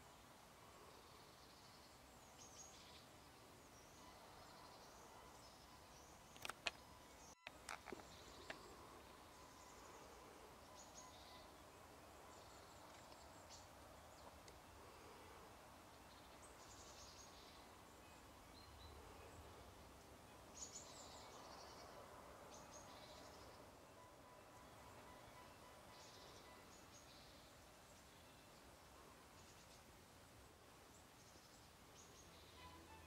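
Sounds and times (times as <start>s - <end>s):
distant songbirds: 0.0s - 33.0s
steady low hiss: 0.0s - 33.0s.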